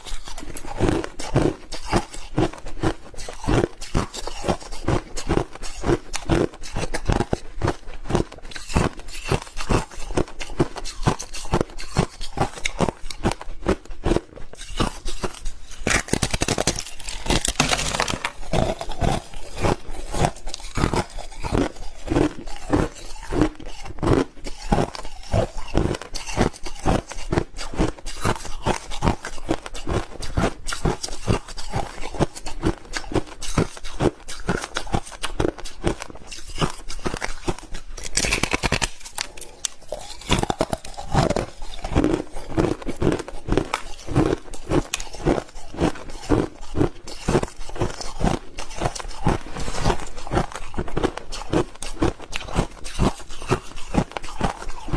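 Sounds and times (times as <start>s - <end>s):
crushed ice being chewed: 0.0s - 54.9s.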